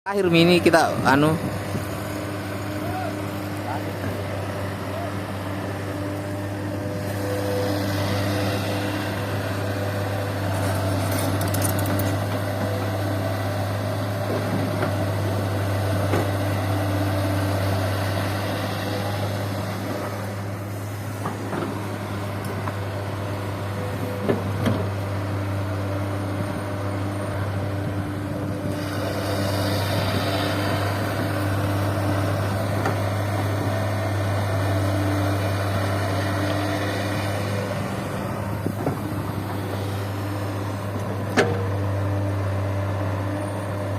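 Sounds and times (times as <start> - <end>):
heavy diesel engines running: 0.2 - 43.9.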